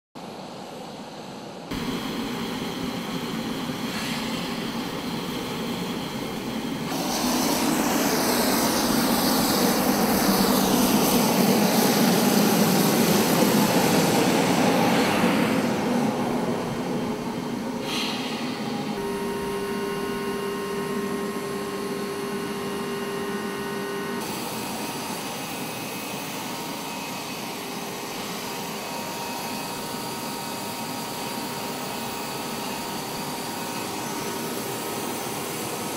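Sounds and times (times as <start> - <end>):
turbine aircraft engines whining: 0.2 - 35.9.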